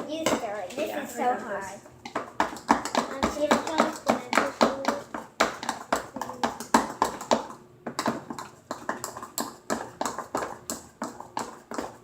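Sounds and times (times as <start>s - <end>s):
utensil stirring thick slime: 1.3s - 12.0s.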